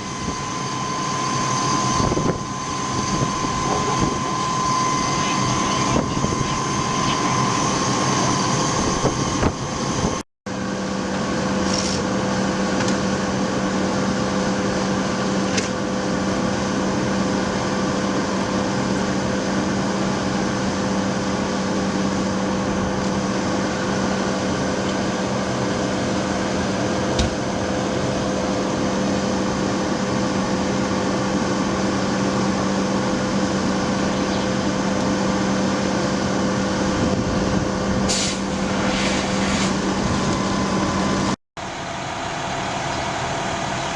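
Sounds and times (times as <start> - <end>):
fire engine mechanical drone: 0.0 - 43.9.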